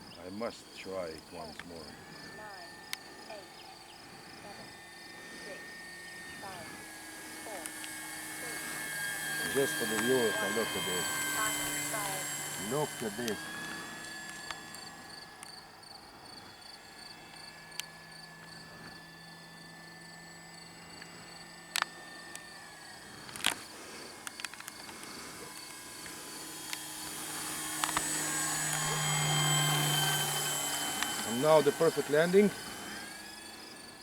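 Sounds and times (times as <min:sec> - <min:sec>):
crickets chirping: 0:00.0 - 0:10.0, 0:10.6 - 0:31.4, 0:32.0 - 0:34.0
model plane motor humming: 0:00.0 - 0:34.0
sharp clicks: 0:01.1 - 0:15.6, 0:20.7 - 0:33.6.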